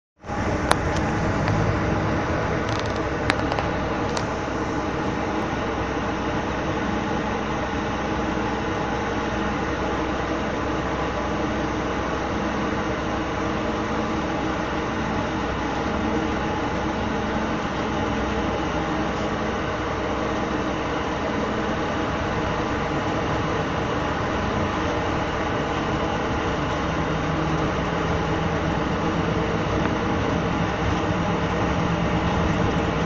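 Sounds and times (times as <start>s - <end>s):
diesel bus engine: 0.2s - 33.0s
road noise: 0.2s - 33.0s.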